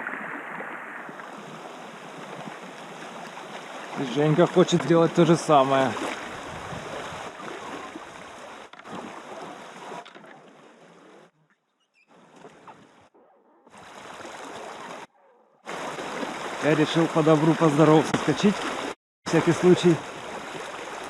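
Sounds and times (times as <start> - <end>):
rushing river water: 0.0 - 11.3, 13.7 - 15.1, 15.7 - 21.0.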